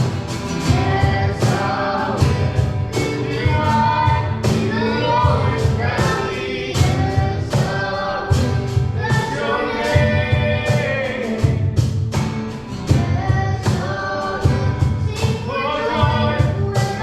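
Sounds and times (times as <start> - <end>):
band with drums and bass: 0.0 - 17.0
group of voices singing: 0.0 - 17.0.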